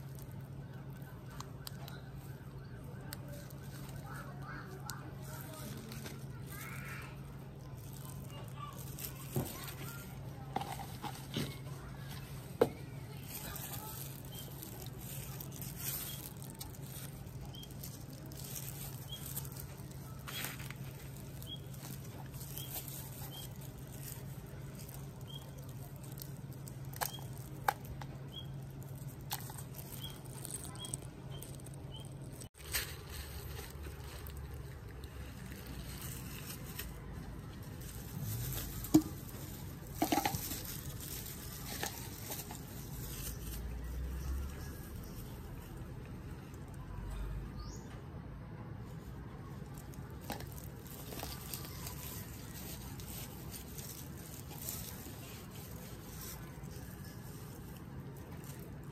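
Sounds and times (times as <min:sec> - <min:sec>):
soft rustling: 0:00.0 - 0:46.9, 0:48.8 - 0:58.9.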